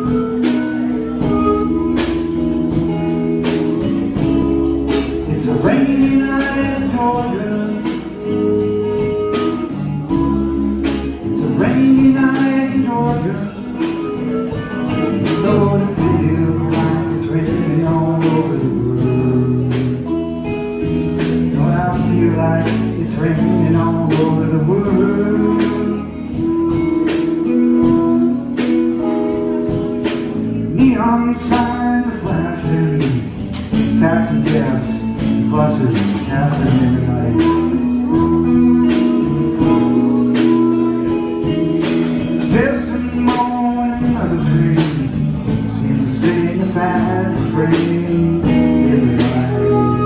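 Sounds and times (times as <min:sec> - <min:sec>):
drums keeping steady beat: 0:00.0 - 0:50.0
electric bass: 0:00.0 - 0:50.0
electric guitar: 0:00.0 - 0:50.0
harmonica melody: 0:00.0 - 0:50.0.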